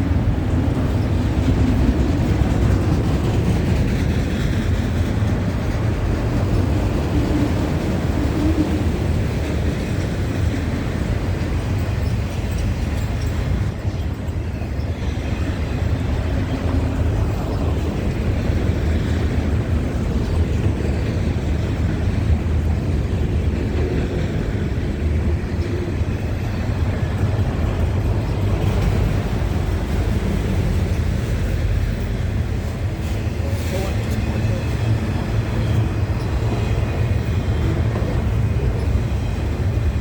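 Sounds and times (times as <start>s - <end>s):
freight train rumbling on rails: 0.0s - 40.0s.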